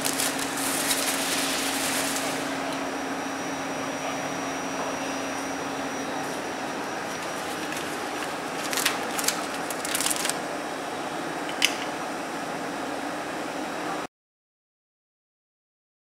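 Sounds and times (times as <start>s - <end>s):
steady machine hum: 0.0s - 14.1s.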